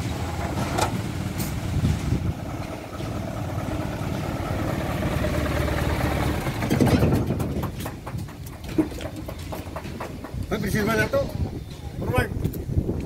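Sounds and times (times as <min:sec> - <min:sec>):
truck engine idling: 0:00.0 - 0:11.1.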